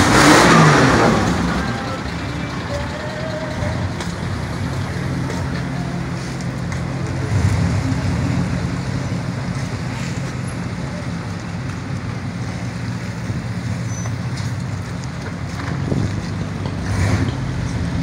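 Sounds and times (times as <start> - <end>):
truck engine humming: 0.0 - 18.0.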